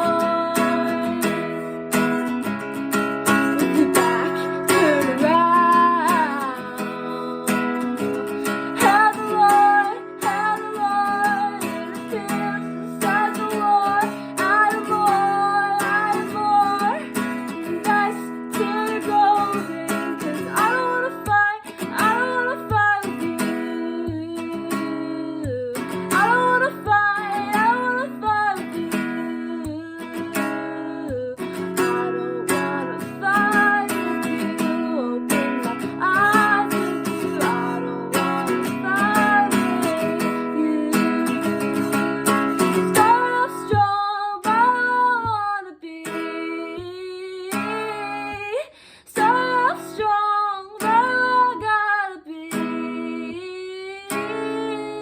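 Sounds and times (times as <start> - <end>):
acoustic guitar strumming: 0.0 - 55.0
woman singing: 0.0 - 55.0.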